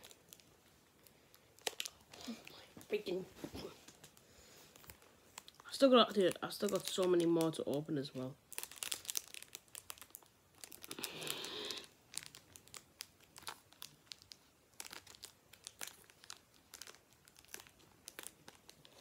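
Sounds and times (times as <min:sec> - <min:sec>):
foil wrapper crinkling and tearing: 0:00.0 - 0:03.0, 0:03.9 - 0:19.0.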